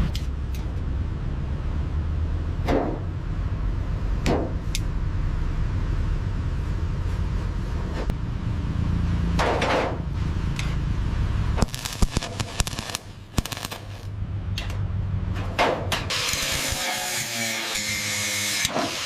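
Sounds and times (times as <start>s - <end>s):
low mechanical rumble: 0.0s - 17.1s.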